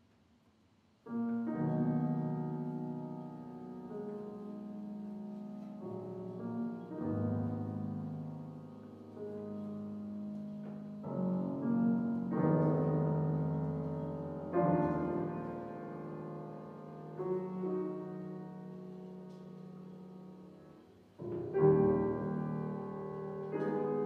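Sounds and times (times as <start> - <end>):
piano playing slow chords: 1.1 - 24.0.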